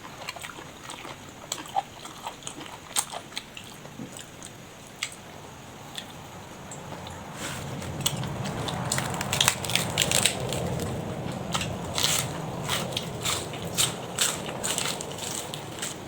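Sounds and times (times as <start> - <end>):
crunchy vegetables being chewed: 0.0 - 16.0.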